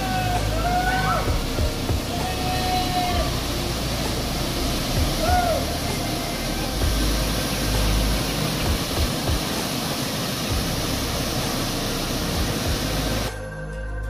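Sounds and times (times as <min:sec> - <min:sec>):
waterfall rushing: 0:00.0 - 0:13.4
music: 0:00.0 - 0:14.0.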